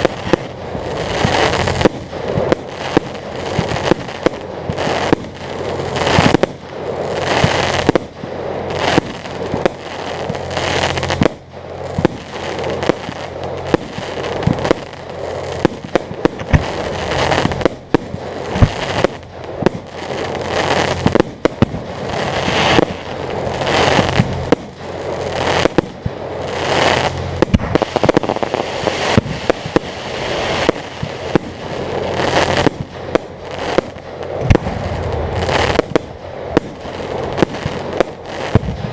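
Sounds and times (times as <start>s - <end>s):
firework crackling: 0.0s - 38.9s
firework shells bursting: 0.0s - 38.9s.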